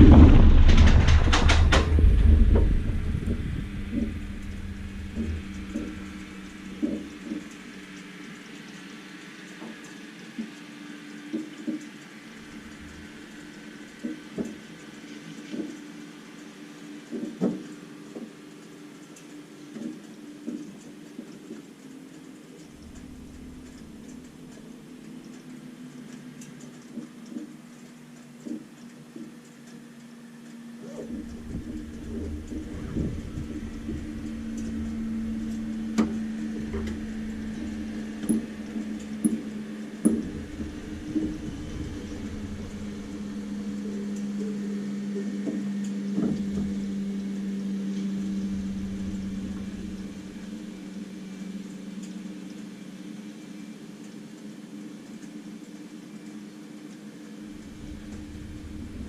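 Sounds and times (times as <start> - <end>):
airplane engine: 0.0 - 59.0
faint steady hum: 0.0 - 59.0.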